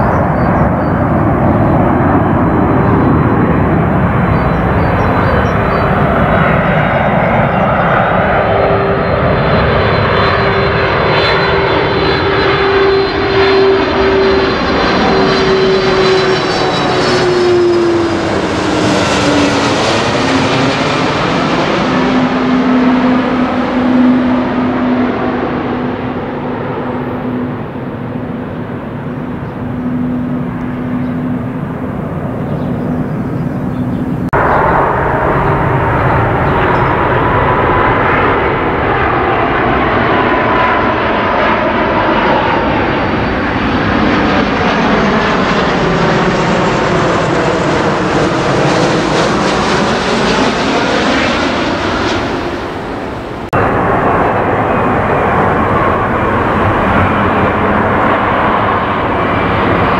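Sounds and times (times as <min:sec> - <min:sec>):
airliner passing low overhead: 0:00.0 - 0:59.9.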